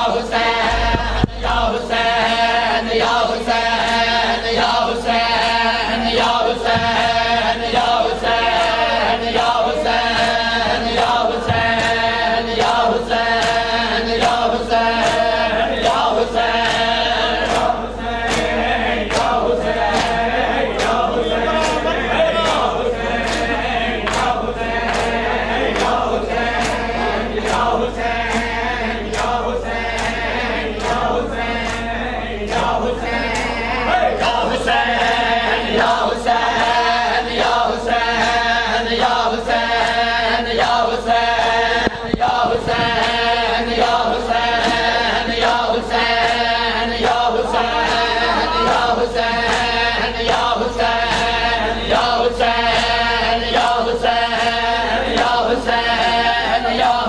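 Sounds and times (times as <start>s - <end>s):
men chanting together: 0.0s - 57.0s.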